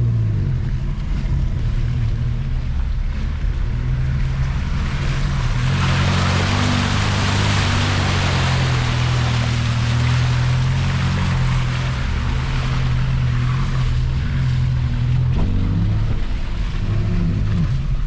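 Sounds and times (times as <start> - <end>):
off-road vehicle engine running hard: 0.0 - 18.0
water rushing: 1.1 - 18.0.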